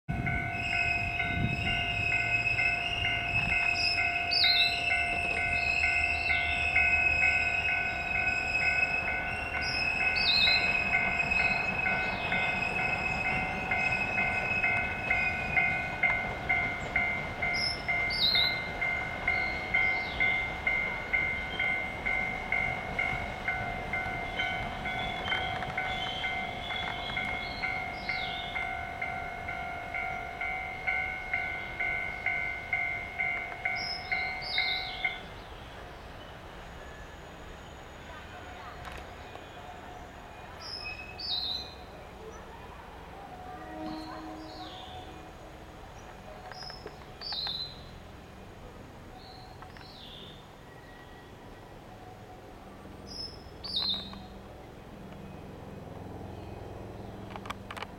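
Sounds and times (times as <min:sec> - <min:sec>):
railway bell ringing: 0:00.1 - 0:57.9
birds chirping: 0:00.3 - 0:42.8, 0:43.6 - 0:48.0, 0:53.0 - 0:57.5.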